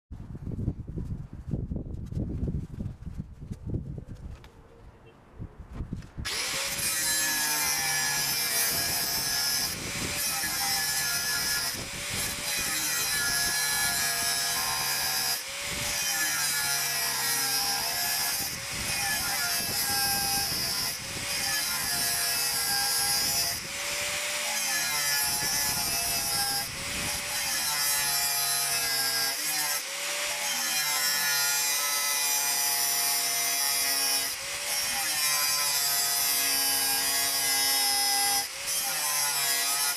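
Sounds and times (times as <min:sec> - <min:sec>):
angle grinder cutting steel: 0:06.3 - 0:39.9.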